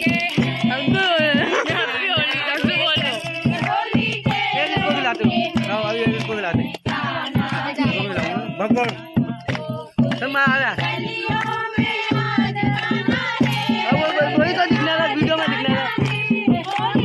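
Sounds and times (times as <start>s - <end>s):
women singing folk song: 0.0s - 17.0s.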